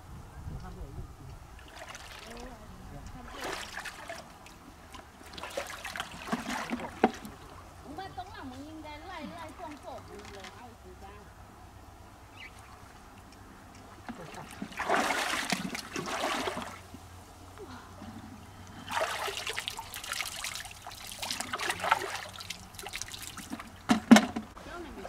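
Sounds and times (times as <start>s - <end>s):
river water splashing: 1.6s - 25.0s.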